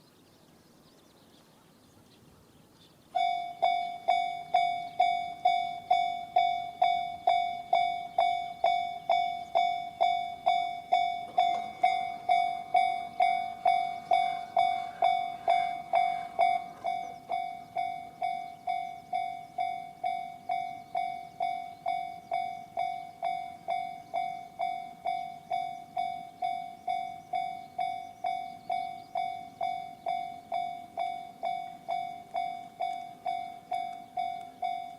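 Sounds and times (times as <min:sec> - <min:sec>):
level-crossing electronic bell: 0:03.2 - 0:34.9.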